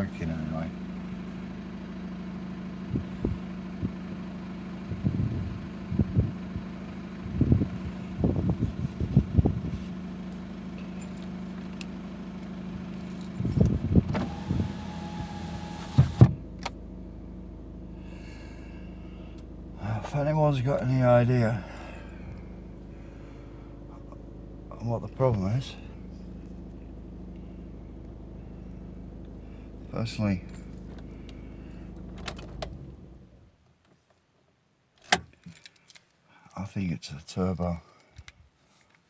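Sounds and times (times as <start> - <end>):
diesel engine idling: 0.0 - 33.5.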